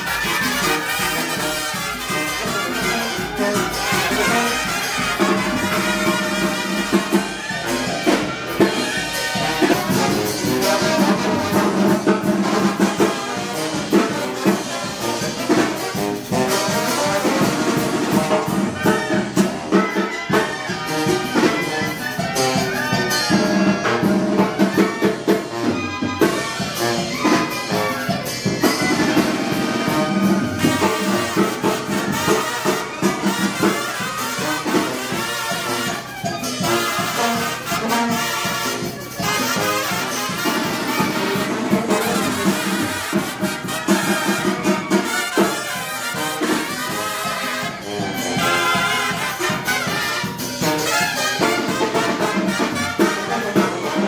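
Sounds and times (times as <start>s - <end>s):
brass band playing: 0.0s - 54.0s
trombones: 0.0s - 54.0s
trumpets: 0.0s - 54.0s.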